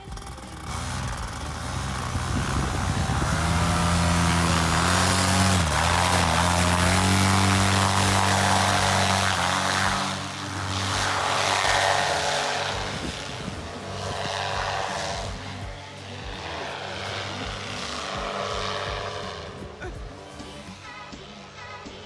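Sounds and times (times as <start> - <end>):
paramotor engine revving: 0.0 - 20.9.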